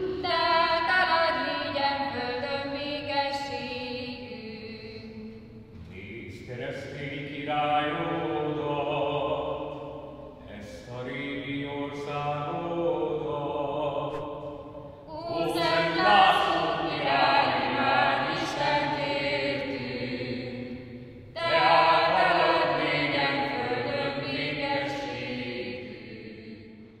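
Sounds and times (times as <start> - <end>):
chant-like singing: 0.0 - 27.0.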